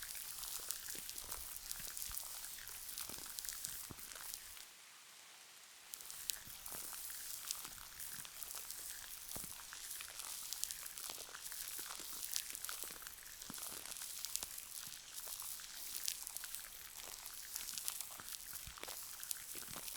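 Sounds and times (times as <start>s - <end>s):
sticky wet gel crackles: 0.0s - 4.7s, 5.9s - 19.9s.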